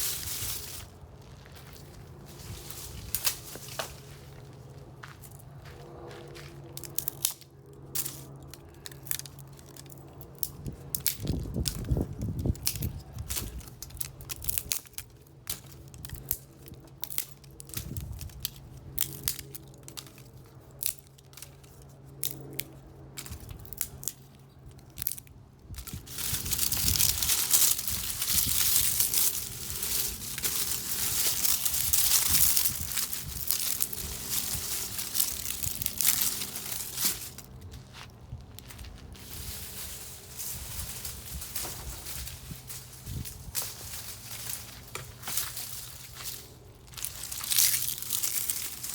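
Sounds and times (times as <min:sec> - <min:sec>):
tree branches cracking and snapping: 0:06.8 - 0:37.8, 0:40.2 - 0:48.9.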